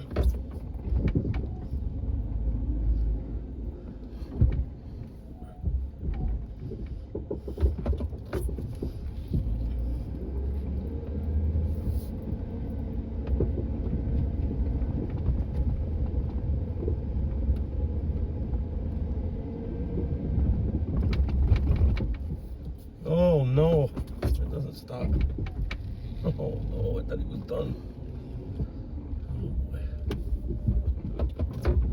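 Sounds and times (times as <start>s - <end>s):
vehicle engine rumbling: 0.0s - 31.9s.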